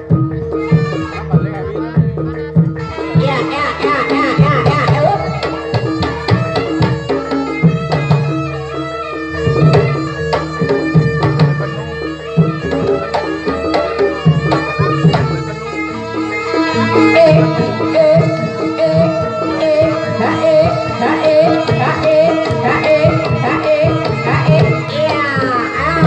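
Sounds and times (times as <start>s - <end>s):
rapid hand-drum strokes: 0.0s - 26.0s.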